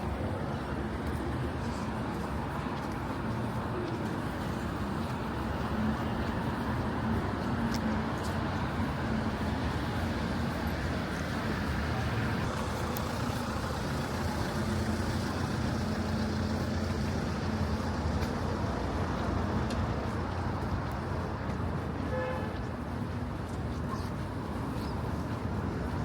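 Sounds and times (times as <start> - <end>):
faint engine hum: 0.0 - 26.0
passing vehicles: 0.0 - 26.0.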